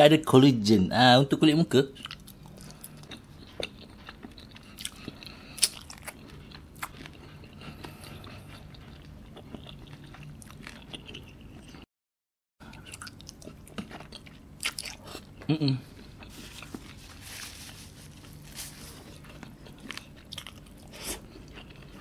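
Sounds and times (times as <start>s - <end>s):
person chewing and eating: 1.9s - 11.9s, 12.6s - 22.0s.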